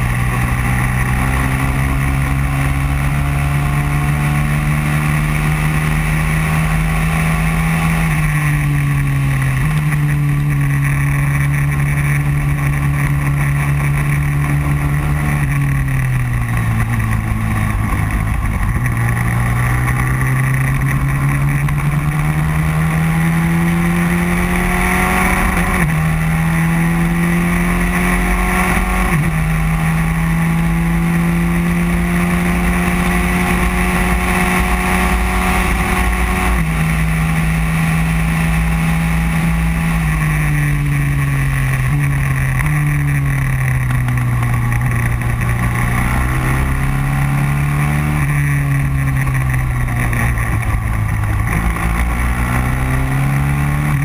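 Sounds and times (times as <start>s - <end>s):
kart engine at high revs: 0.0s - 54.0s.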